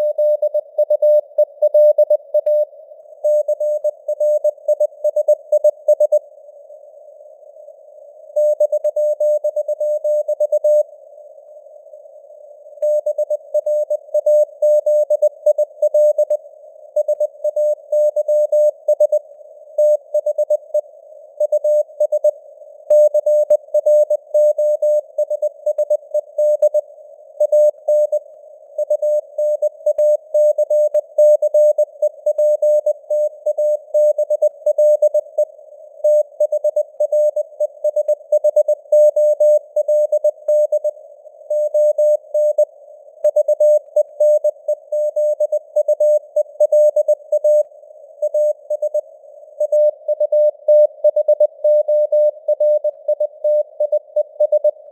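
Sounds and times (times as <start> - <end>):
faint radio hiss: 2.6 - 51.0.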